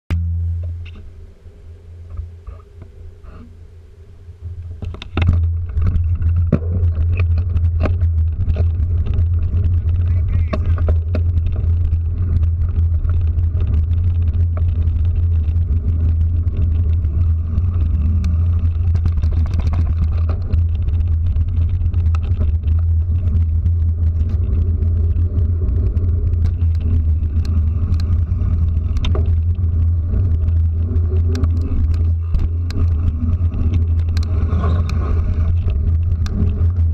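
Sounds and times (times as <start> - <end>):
vehicle low rumble: 0.1 - 36.9
rattles over paving stones: 4.6 - 36.9.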